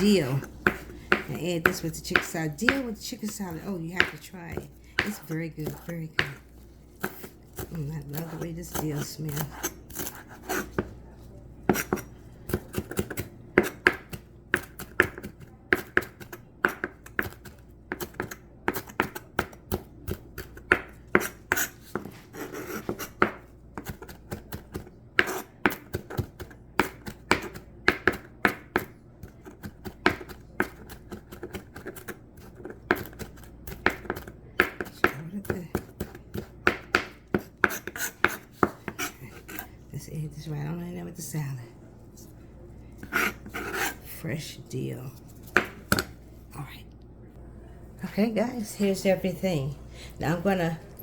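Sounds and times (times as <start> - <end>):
knife chopping on cutting board: 0.0 - 10.9, 11.7 - 39.7, 43.0 - 44.0, 45.4 - 46.2.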